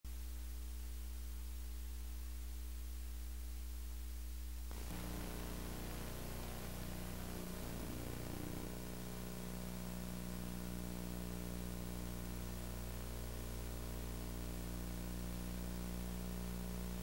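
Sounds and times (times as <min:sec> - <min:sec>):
low electrical hum: 0:00.1 - 0:17.0
tape hiss: 0:00.1 - 0:17.0.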